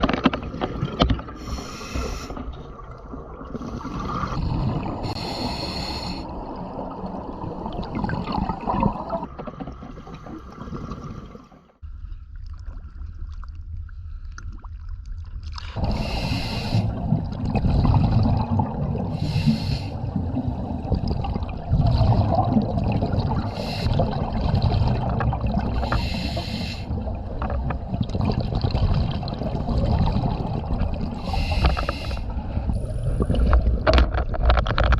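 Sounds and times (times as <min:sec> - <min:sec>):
exhaled bubbles underwater: 0:00.0 - 0:11.7, 0:14.4 - 0:34.9.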